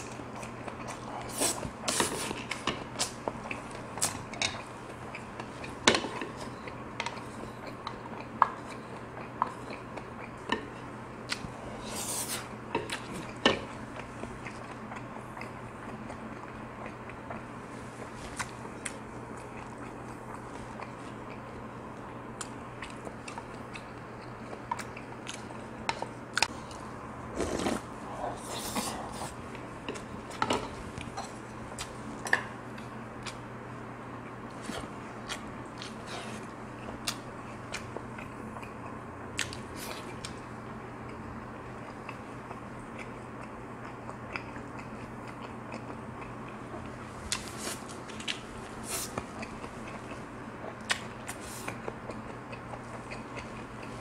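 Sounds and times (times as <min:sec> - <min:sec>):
man chewing and smacking: 0:00.0 - 0:11.6, 0:12.7 - 0:27.8, 0:34.6 - 0:54.0
steady low hum: 0:00.0 - 0:54.0.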